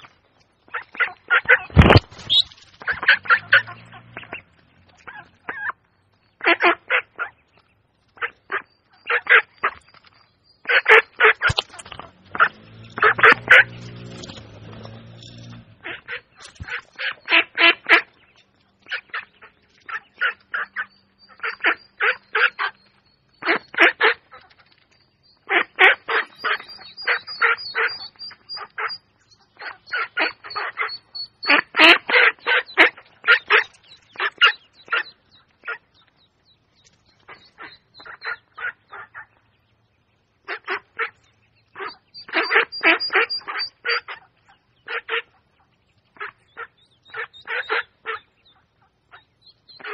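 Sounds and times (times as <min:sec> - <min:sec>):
ducks quacking: 0:00.0 - 0:09.9, 0:10.6 - 0:24.8, 0:25.4 - 0:36.2, 0:37.2 - 0:49.9.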